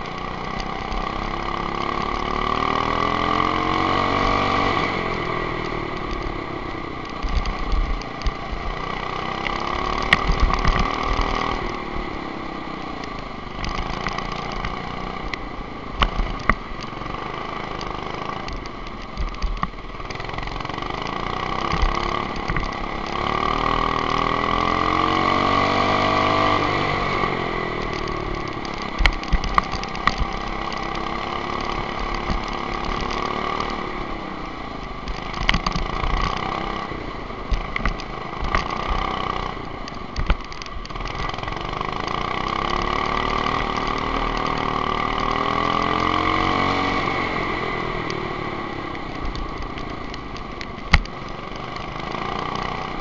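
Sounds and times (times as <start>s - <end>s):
go-kart engine revving: 0.0s - 53.0s.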